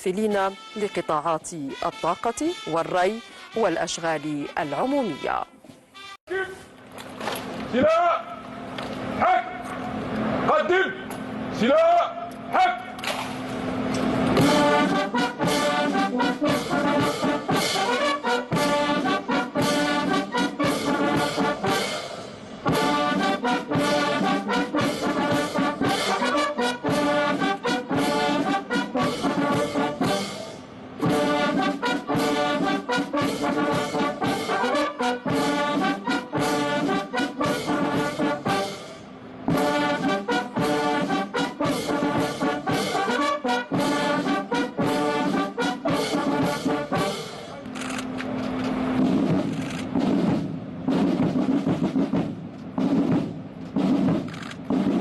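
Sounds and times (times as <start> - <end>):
military brass band playing: 0.2 - 6.6, 7.2 - 55.0.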